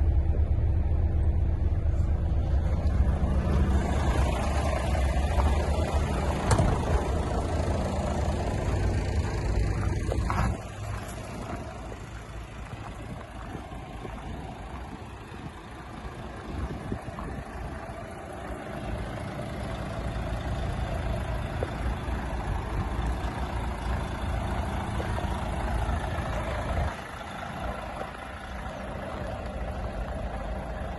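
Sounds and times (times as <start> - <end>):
truck diesel engine idling: 0.0 - 30.9.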